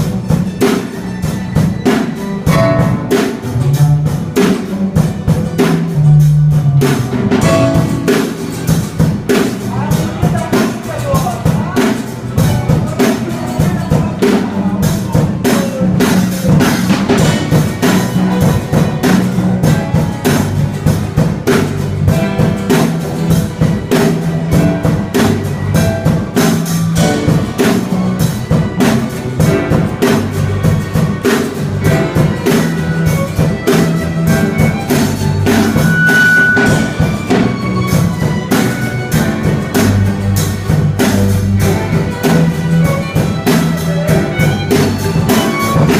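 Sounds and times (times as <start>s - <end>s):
bass line: 0.0s - 45.9s
steady drum beat: 0.0s - 45.9s.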